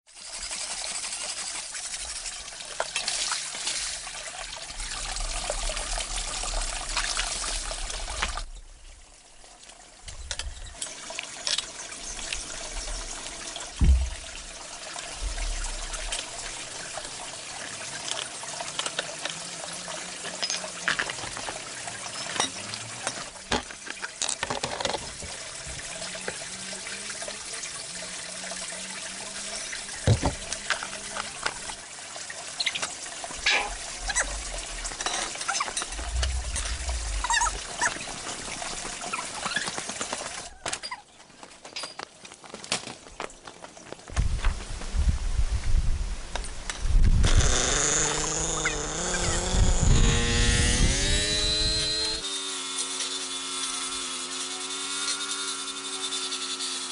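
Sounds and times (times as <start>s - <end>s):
water running and trickling: 0.1s - 56.9s.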